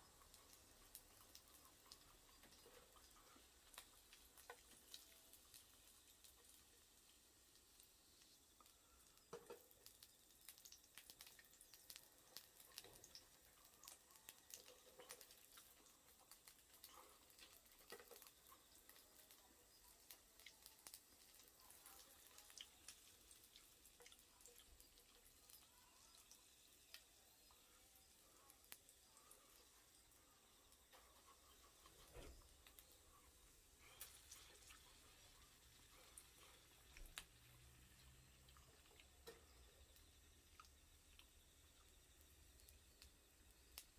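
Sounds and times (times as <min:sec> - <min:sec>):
food sizzling: 0:00.0 - 0:43.9
wood fire crackling: 0:00.0 - 0:43.9.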